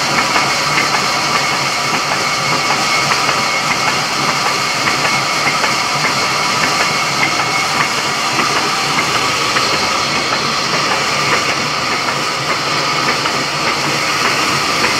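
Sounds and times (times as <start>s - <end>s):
sawmill saw whining: 0.0s - 14.9s.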